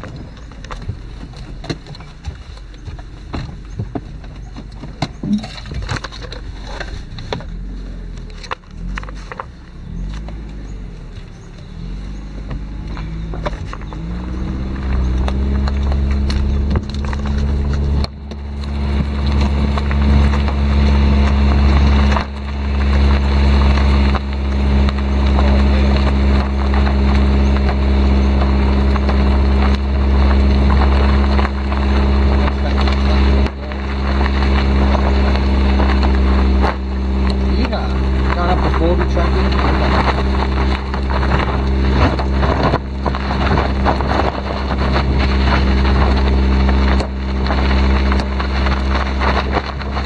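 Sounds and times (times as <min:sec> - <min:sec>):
car engine at low speed: 0:00.0 - 0:50.0
wind rumble on microphone: 0:00.0 - 0:50.0.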